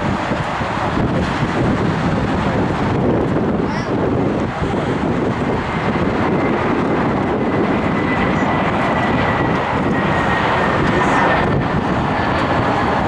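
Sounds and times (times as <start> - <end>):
jet engines passing low: 0.0 - 13.0.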